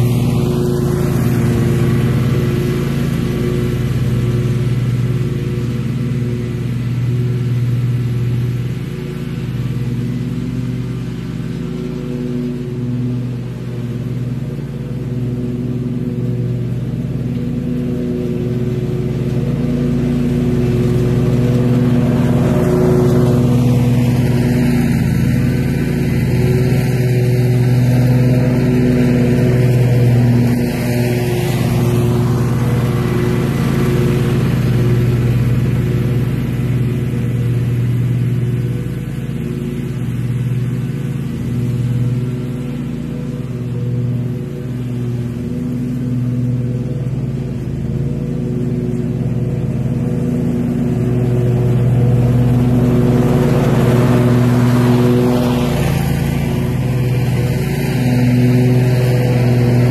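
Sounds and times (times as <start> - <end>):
mower deck cutting grass: 0.0 - 59.9
mower engine running: 0.0 - 59.9.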